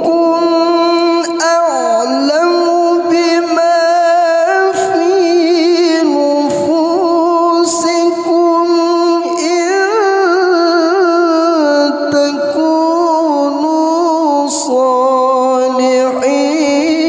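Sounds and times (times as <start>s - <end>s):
person reciting melodically: 0.0s - 17.0s.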